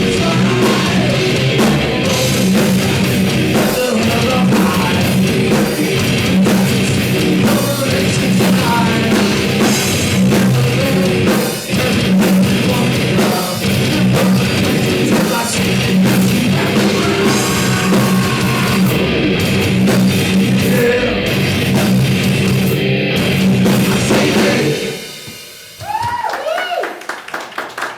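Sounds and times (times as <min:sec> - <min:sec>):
heavy metal band playing live: 0:00.0 - 0:25.7.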